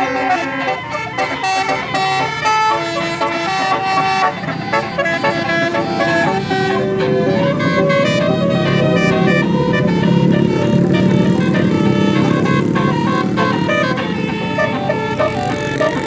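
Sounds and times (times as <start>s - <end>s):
multi-tone air horns playing a tune: 0.0s - 16.0s.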